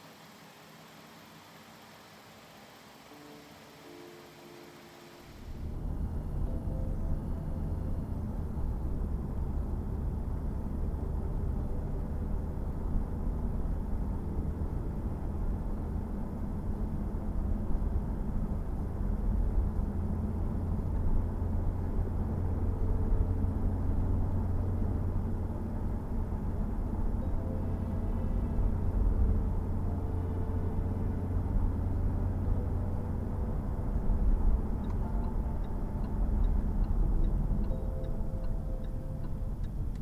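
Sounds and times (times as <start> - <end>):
car engine low rumble: 5.2 - 40.0.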